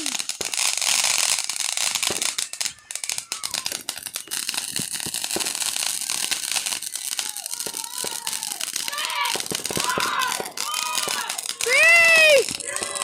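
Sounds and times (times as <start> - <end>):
firecrackers popping and crackling: 0.0 - 13.0.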